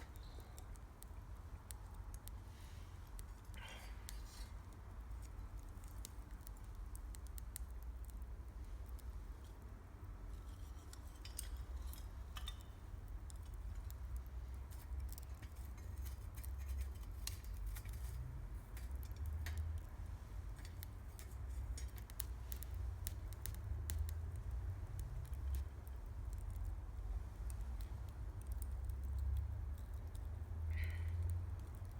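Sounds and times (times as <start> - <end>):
campfire crackling and popping: 0.0 - 31.9.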